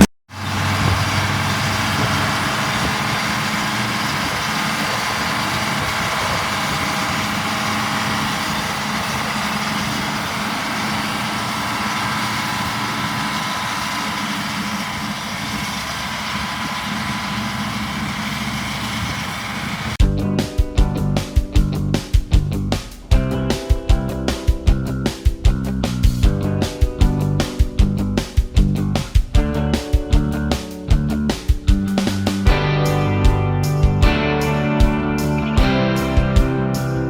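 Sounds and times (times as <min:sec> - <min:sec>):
machinery engine running steadily: 0:00.3 - 0:37.0.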